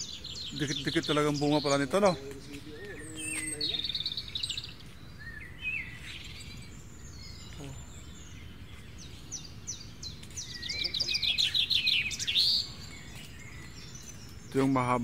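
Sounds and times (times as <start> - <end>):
bird trilling: 0.0 - 14.8
birds chirping and whistling: 0.0 - 15.0.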